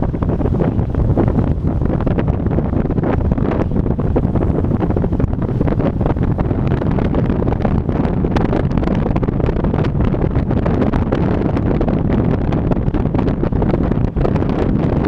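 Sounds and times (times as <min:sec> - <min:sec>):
car rumbling on road: 0:00.0 - 0:15.0
wind buffeting microphone: 0:00.0 - 0:15.0.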